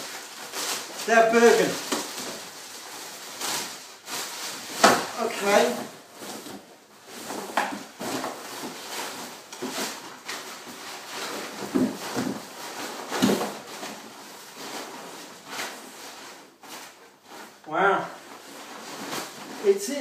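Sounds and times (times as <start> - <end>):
rucksack fabric rustling: 0.0 - 20.0.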